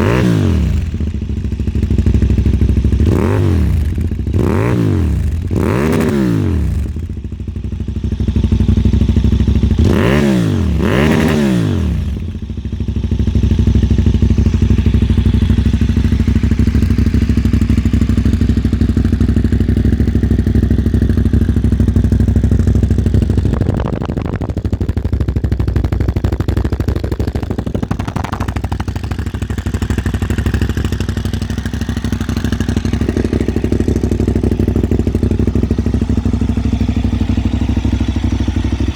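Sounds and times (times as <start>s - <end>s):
motorcycle engine idling with revs: 0.0s - 38.9s.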